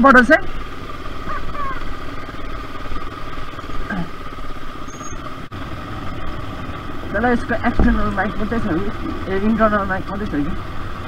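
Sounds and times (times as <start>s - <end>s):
motorcycle engine running: 0.0s - 11.0s
wind: 0.0s - 11.0s
road rumble on gravel: 0.3s - 11.0s.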